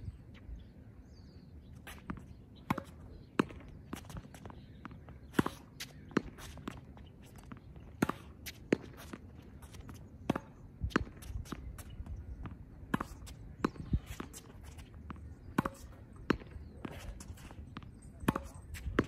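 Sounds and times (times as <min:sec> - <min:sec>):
footsteps on hard court: 0:01.7 - 0:17.8
tennis ball hits and bounces: 0:01.8 - 0:19.0.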